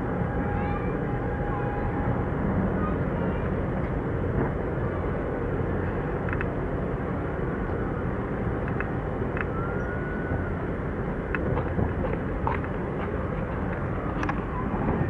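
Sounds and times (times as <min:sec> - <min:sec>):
low harbour rumble: 0:00.0 - 0:15.0.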